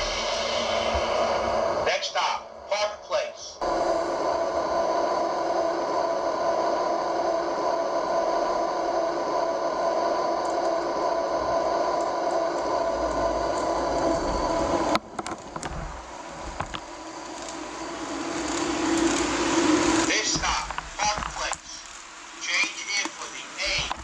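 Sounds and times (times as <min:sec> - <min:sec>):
model train running: 0:01.8 - 0:24.0.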